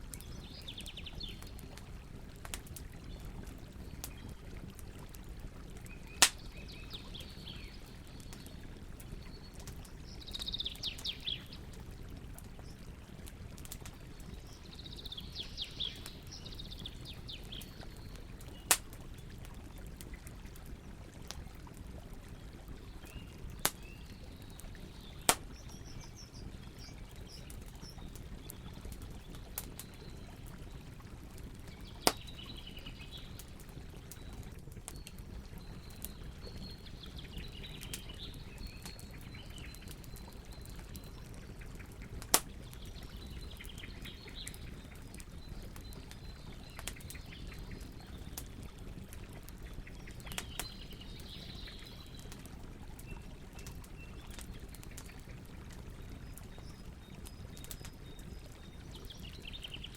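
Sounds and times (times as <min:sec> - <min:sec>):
campfire crackling: 0:00.0 - 0:59.9
small birds chirping: 0:00.1 - 0:01.8, 0:05.7 - 0:11.9, 0:12.5 - 0:21.1, 0:22.3 - 0:59.9.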